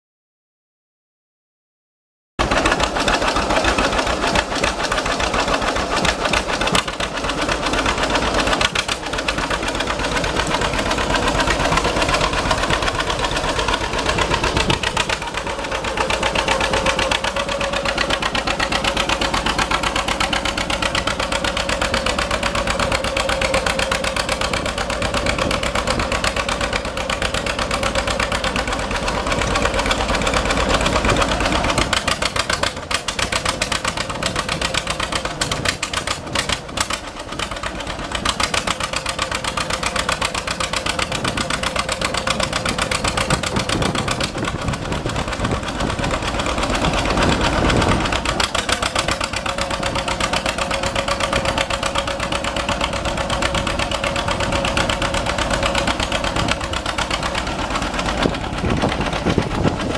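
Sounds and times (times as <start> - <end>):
tractor engine running: 2.4 - 59.9.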